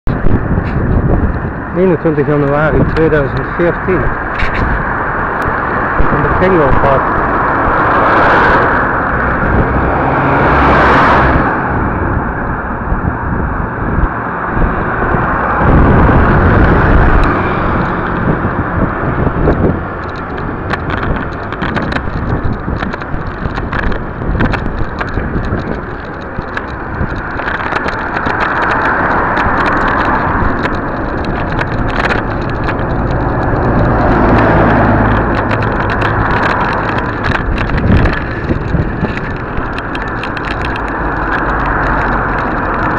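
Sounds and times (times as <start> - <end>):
road noise: 0.0 - 42.9
wind on microphone: 0.0 - 42.9
sharp clicks and rattles: 0.1 - 11.5, 14.6 - 42.9.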